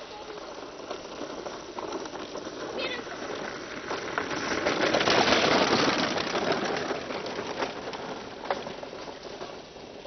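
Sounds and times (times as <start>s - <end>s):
kart wheels rattling over gravel: 0.0s - 10.0s.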